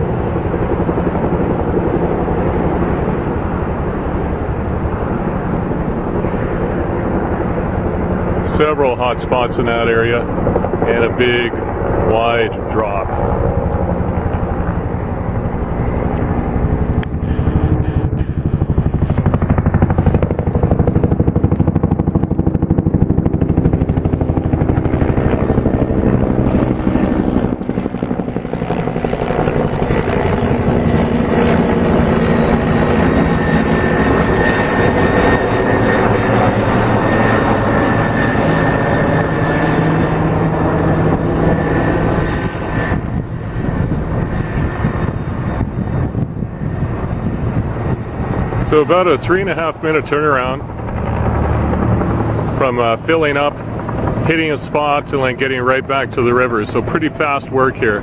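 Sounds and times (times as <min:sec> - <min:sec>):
helicopter rotor blades beating: 0:00.0 - 0:58.0
steady high whine: 0:00.0 - 0:58.0.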